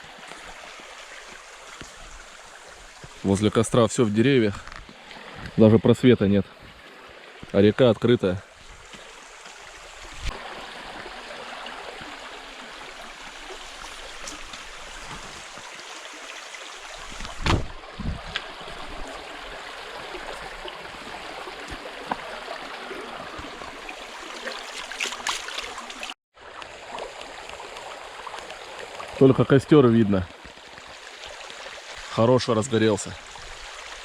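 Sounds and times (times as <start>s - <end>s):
river flowing over stones: 0.0s - 34.0s.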